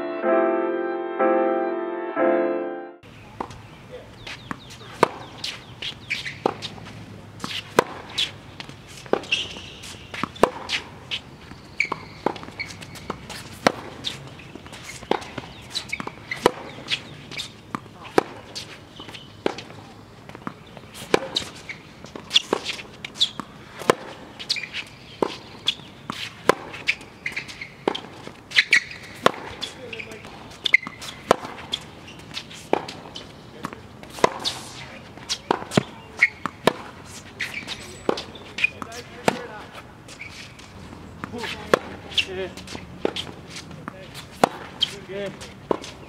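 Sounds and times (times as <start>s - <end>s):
rackets striking tennis ball: 3.3s - 46.0s
tennis ball bouncing: 3.3s - 46.0s
shoe squeaks: 4.1s - 46.0s.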